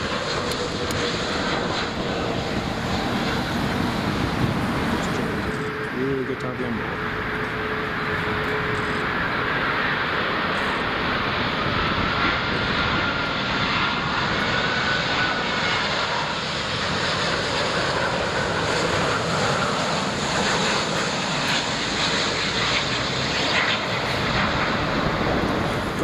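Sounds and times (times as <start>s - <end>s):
faint high engine whine: 0.0s - 26.0s
jet engines roaring: 0.0s - 26.0s.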